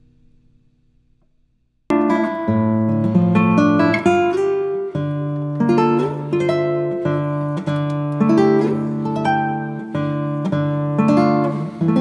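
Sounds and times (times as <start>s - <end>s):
acoustic guitar playing: 1.9s - 12.0s.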